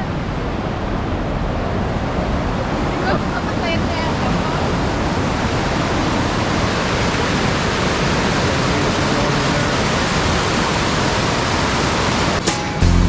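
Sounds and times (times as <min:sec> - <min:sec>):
water rushing over rapids: 0:00.0 - 0:12.8.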